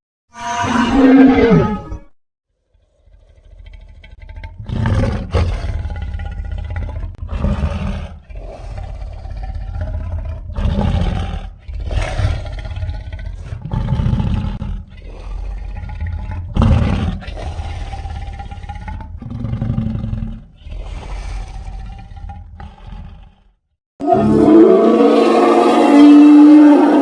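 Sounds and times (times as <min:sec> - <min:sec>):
cartoon dinosaur roars and growls: 0:00.3 - 0:02.0, 0:02.8 - 0:27.0.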